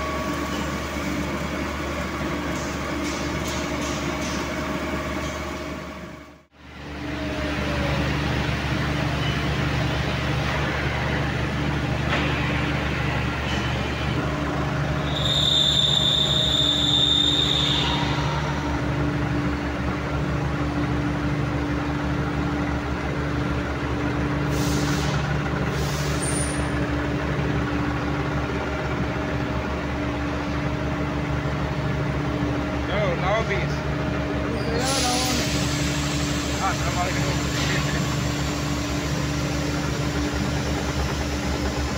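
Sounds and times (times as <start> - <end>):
lathe machine hum: 0.0 - 41.9.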